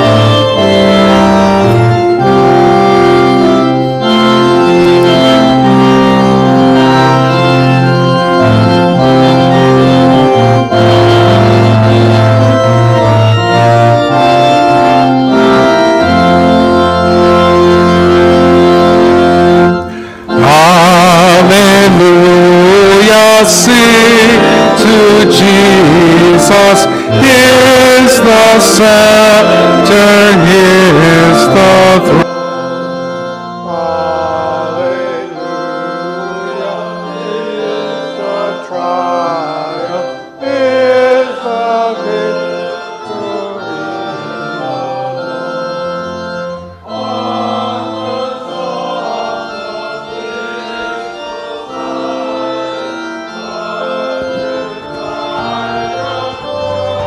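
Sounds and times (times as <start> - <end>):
choir and congregation singing hymn: 0.0 - 57.0
church organ: 0.0 - 57.0.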